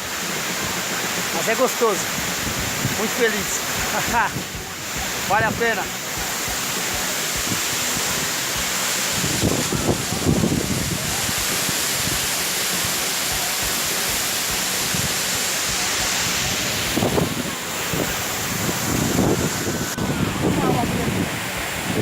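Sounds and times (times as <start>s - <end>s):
waterfall rushing: 0.0s - 22.0s
faint voices: 3.4s - 22.0s.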